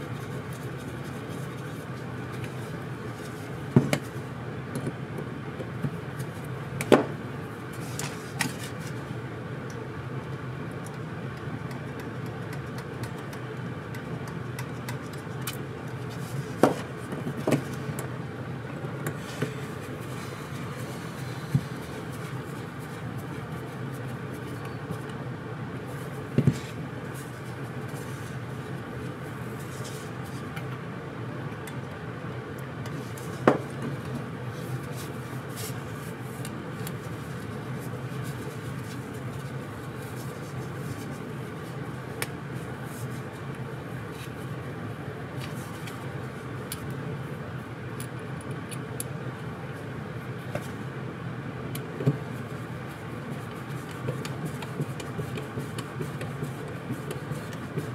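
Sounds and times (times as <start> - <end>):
steady background hum: 0.0 - 57.9.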